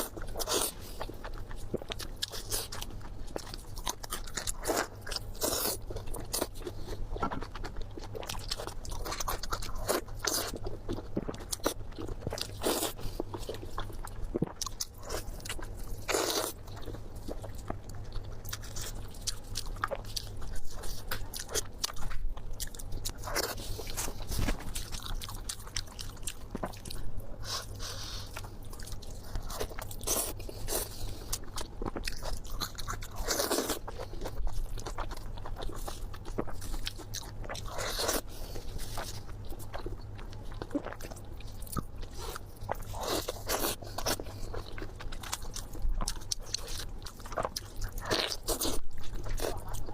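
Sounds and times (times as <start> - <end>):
crunchy bites and chewing: 0.0 - 49.9.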